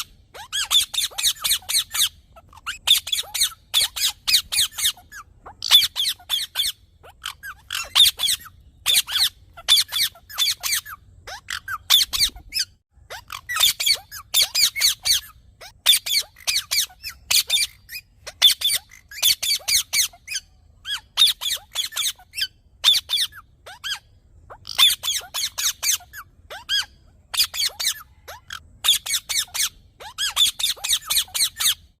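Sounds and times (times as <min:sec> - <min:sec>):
parrot shrill chirping: 0:00.0 - 0:32.0.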